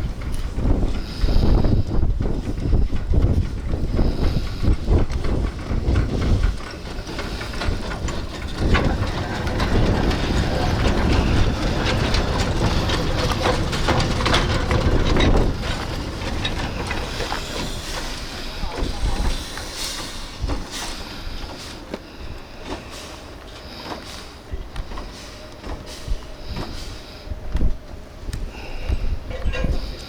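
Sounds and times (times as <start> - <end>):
wind on microphone: 0.0 - 20.7, 26.0 - 30.0
wheels clicking on rails: 0.0 - 30.0
steam hissing: 0.2 - 27.6.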